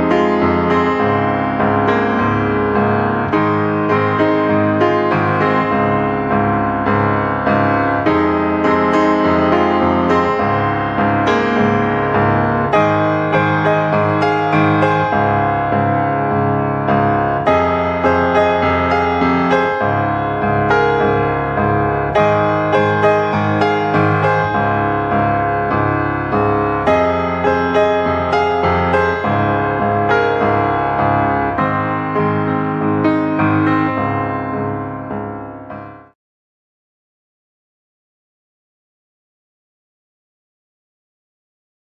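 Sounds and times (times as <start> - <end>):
gentle piano music: 0.0 - 36.2.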